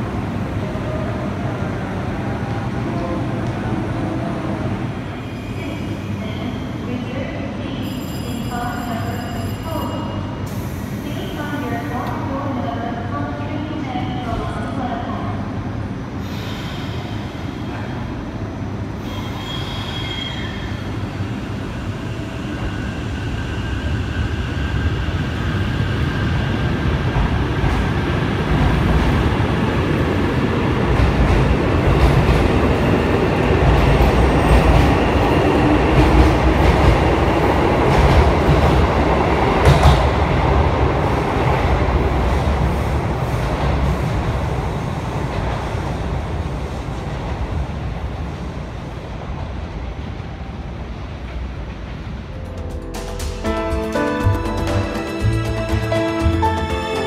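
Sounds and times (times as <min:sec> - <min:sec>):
train rumbling on tracks: 0:00.0 - 0:57.0.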